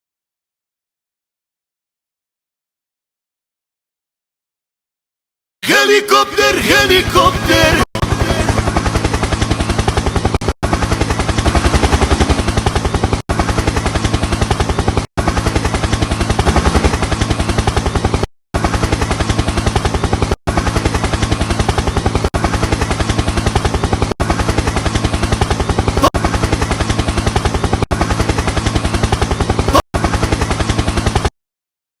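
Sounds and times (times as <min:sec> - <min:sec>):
helicopter rotor blades chopping: 0:05.7 - 0:31.3.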